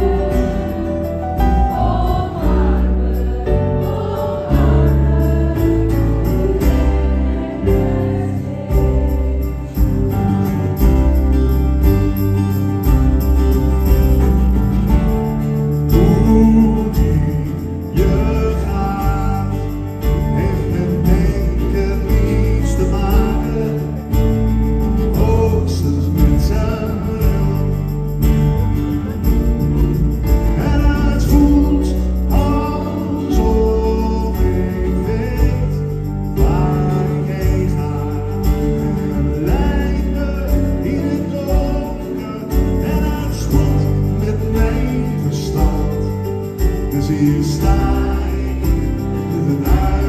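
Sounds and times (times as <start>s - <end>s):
live band playing: 0.0s - 50.0s.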